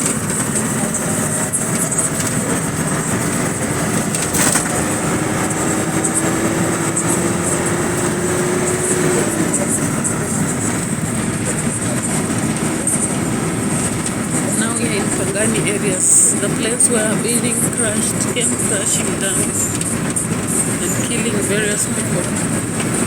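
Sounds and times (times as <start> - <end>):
rising whine: 0.0 - 23.0
road and engine noise: 0.0 - 23.0.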